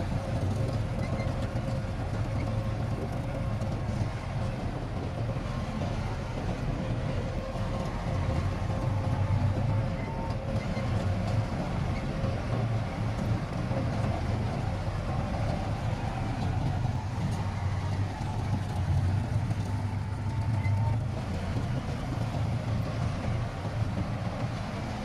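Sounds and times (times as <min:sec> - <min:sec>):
diesel machinery engine drone: 0:00.0 - 0:25.0.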